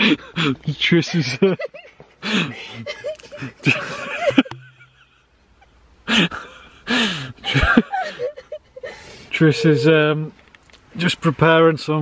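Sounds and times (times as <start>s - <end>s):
people laughing: 0.0s - 9.9s.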